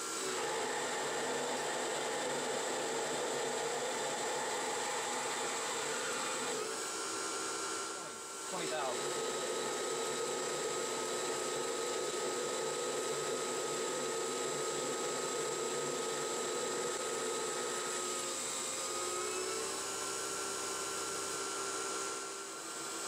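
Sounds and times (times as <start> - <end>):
lathe motor and belt whine: 0.0 - 23.0.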